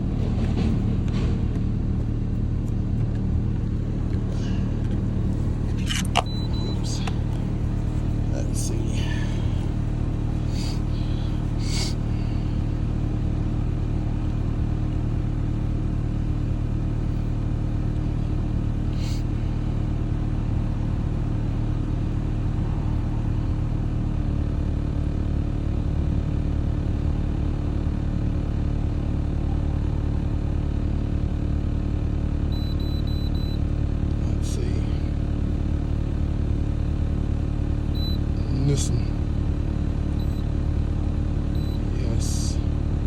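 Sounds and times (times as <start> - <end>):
car engine idling with misfire: 0.0 - 43.0.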